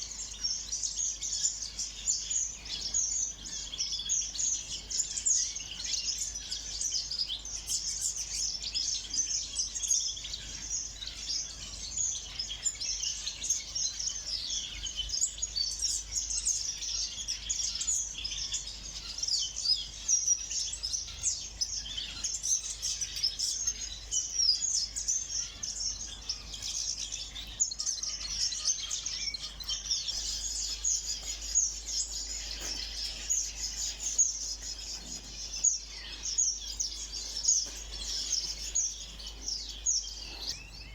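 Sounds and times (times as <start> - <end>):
flock of small birds chirping: 0.0 - 40.9.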